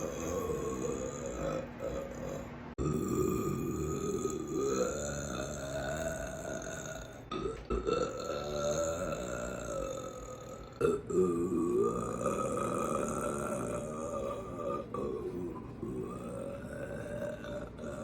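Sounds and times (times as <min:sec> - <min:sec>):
woman belching: 0:00.0 - 0:18.0.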